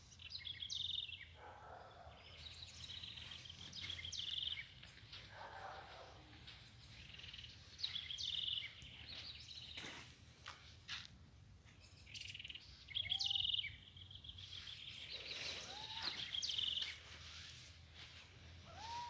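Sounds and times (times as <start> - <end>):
songbirds singing buzzy trills: 0.0 - 10.2, 11.6 - 19.0.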